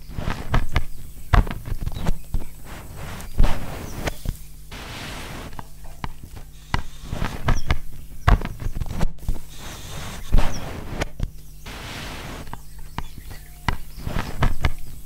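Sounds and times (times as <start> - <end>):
short bursts of noise: 0.0 - 12.6, 13.2 - 15.0
steady low hum: 0.0 - 15.0.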